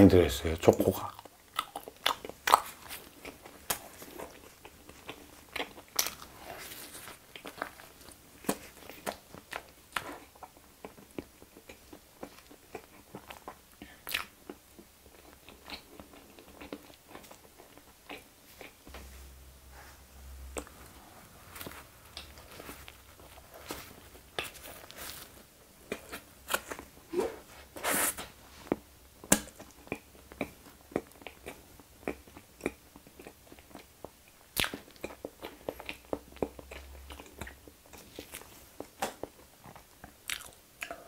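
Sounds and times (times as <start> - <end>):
chewing bread: 1.0 - 18.9, 20.5 - 27.0, 28.7 - 41.0.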